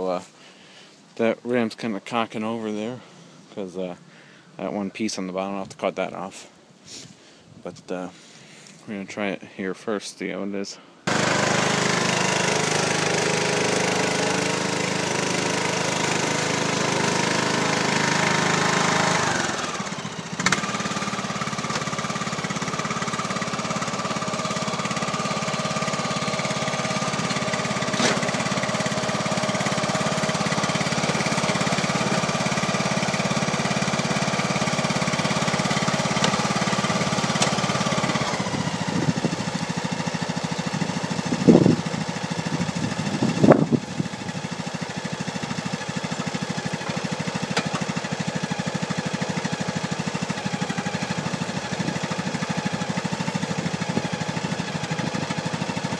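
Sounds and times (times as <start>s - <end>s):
lawn tractor engine running: 11.1s - 55.9s.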